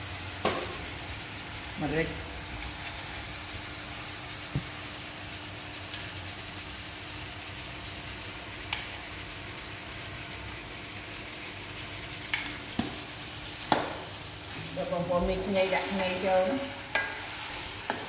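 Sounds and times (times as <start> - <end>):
fish sizzling in oil: 0.0 - 18.0.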